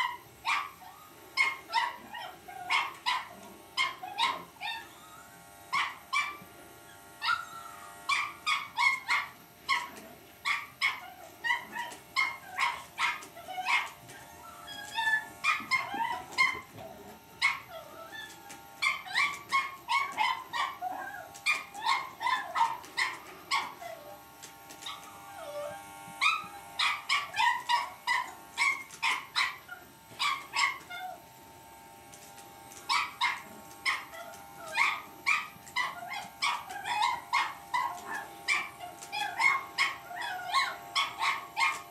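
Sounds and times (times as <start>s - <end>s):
puppy yapping and barking: 0.0s - 31.2s, 32.2s - 41.9s.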